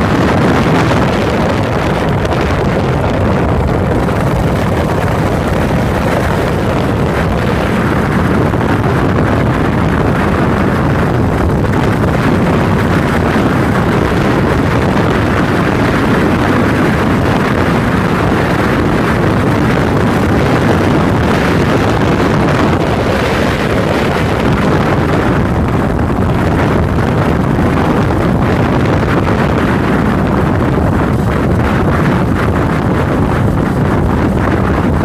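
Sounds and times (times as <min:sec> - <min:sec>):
motorcycle engine running: 0:00.0 - 0:35.0
wind rushing over microphone: 0:00.0 - 0:35.0.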